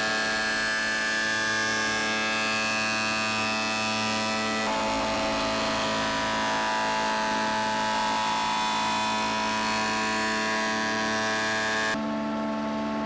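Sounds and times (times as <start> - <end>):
woodworking machine whining: 0.0 - 12.0.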